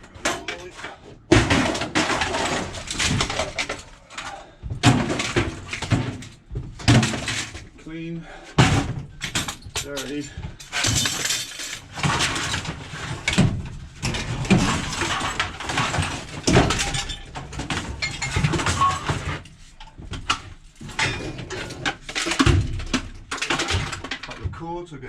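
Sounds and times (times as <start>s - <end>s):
scrap metal clattering: 0.0s - 24.4s.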